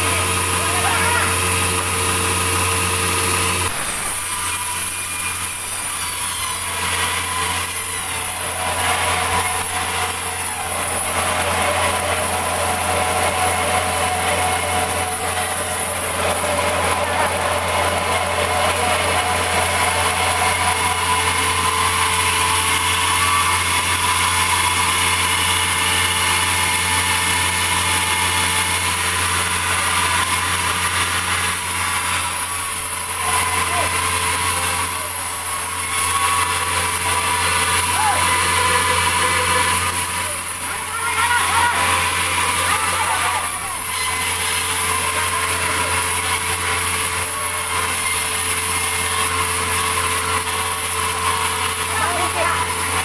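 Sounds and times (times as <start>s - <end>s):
sawmill saw whining: 0.0s - 53.0s.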